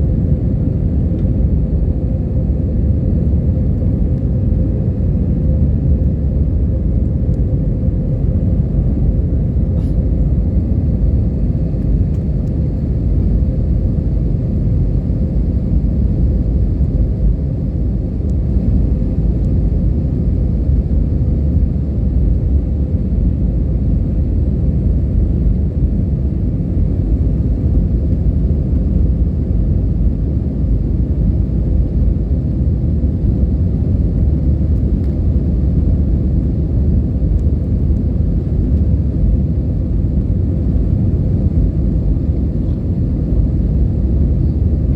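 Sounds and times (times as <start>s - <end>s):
airliner engine and airflow rumble: 0.0s - 44.9s.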